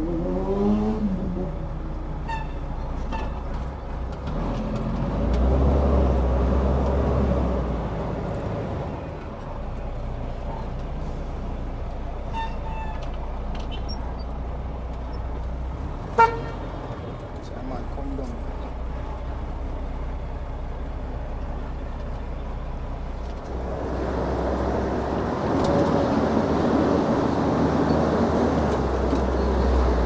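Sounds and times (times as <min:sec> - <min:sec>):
truck diesel engine from cab: 0:00.0 - 0:30.0.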